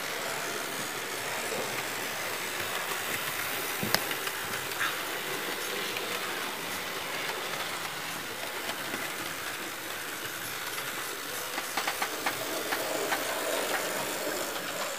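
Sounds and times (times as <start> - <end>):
model train motors whirring: 0.0 - 14.9
wheels clicking over rail joints: 0.3 - 14.9.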